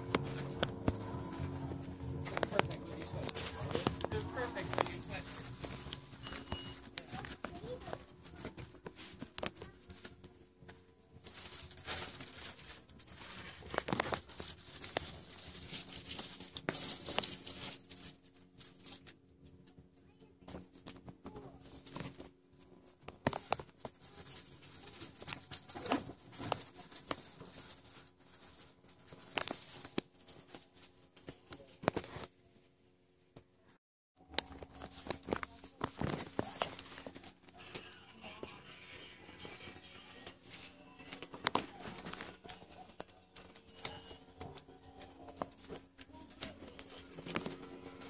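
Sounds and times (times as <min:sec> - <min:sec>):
rustling and crinkling: 0:00.0 - 0:33.5, 0:34.2 - 0:38.6, 0:39.3 - 0:48.0.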